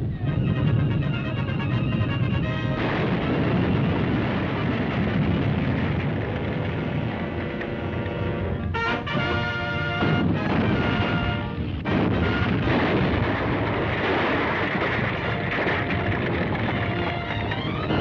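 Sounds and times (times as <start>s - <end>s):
heavy continuous rumbling: 0.0s - 18.0s.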